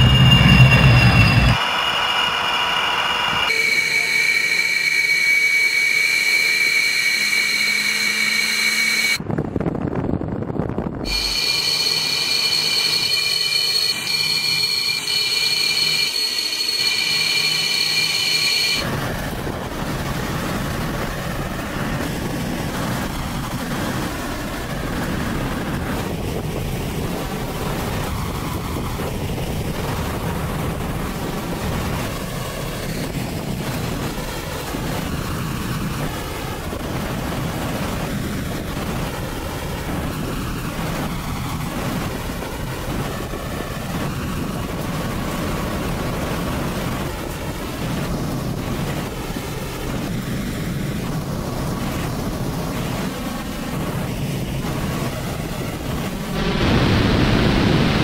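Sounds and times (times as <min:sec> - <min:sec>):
jet turbine whine: 0:00.0 - 0:09.3, 0:11.0 - 0:58.0
jet roar in flight: 0:00.0 - 0:58.0.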